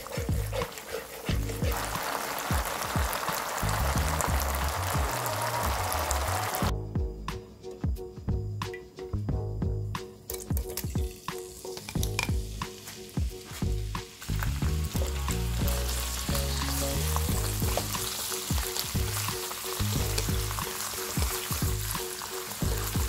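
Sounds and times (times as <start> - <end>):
meat sizzling in oil: 0.0 - 6.7, 10.6 - 23.0.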